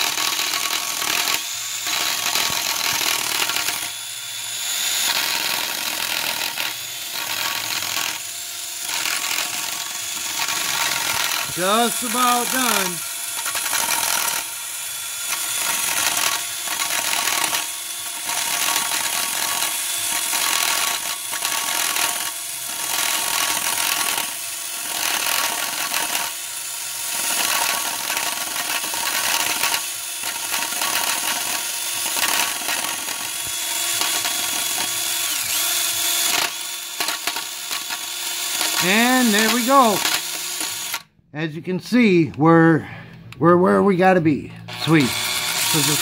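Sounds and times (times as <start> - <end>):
cutter scraping aluminium: 0.0 - 41.1, 44.6 - 46.0
drill motor whining: 0.0 - 41.2, 44.6 - 46.0.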